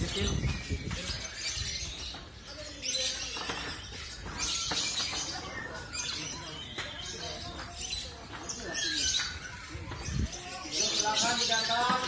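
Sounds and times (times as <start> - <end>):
lovebirds chirping and trilling: 0.0 - 12.0
people's voices: 0.0 - 12.0.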